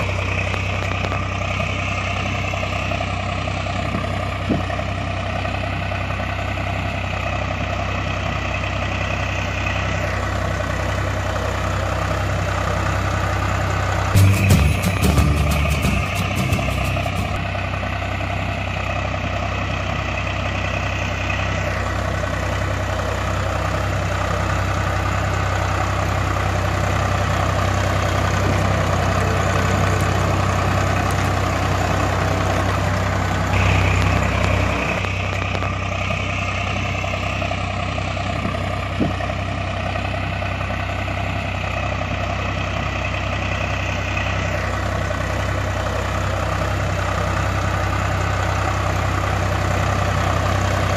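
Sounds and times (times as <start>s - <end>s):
tractor engine idling: 0.0s - 50.9s.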